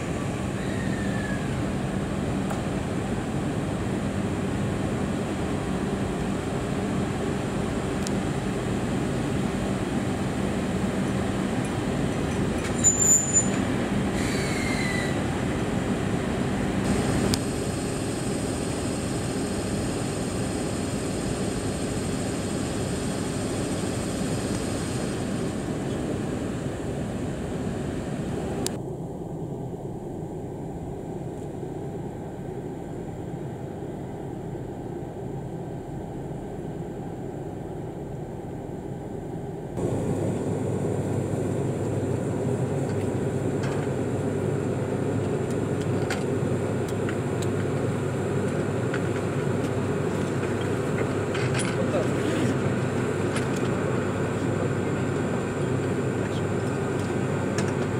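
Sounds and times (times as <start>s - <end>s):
locomotive cooling blowers drone: 0.0s - 57.9s.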